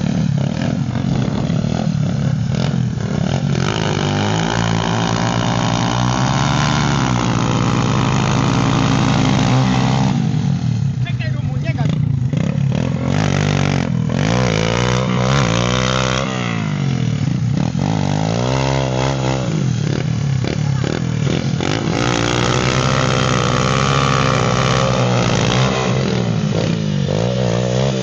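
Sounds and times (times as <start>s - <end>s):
small motorbike engines revving: 0.0s - 28.0s
wheels spinning in sand: 0.0s - 28.0s.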